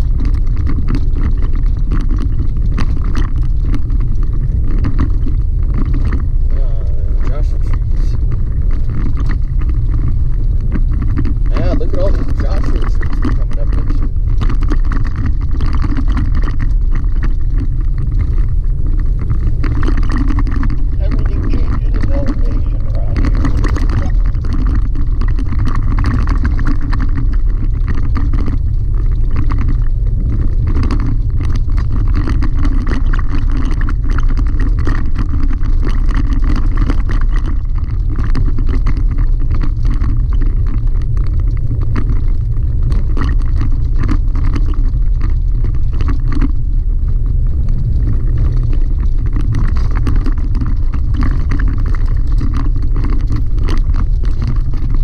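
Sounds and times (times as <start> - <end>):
vehicle rumble on gravel: 0.0 - 55.0.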